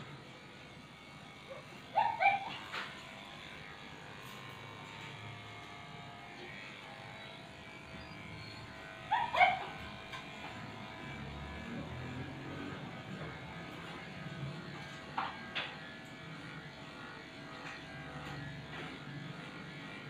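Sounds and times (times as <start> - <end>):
electric pet clipper running: 0.0 - 20.0.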